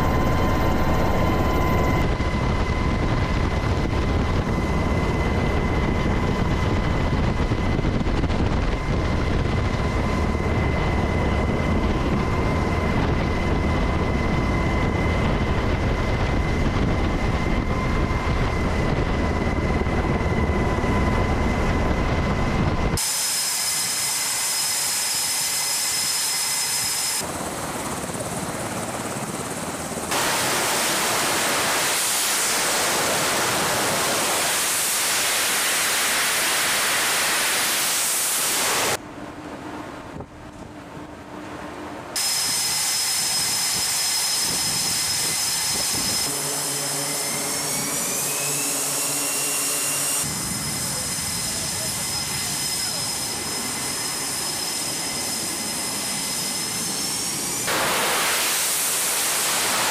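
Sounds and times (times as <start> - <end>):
jet engines rushing and whining: 0.0 - 59.9.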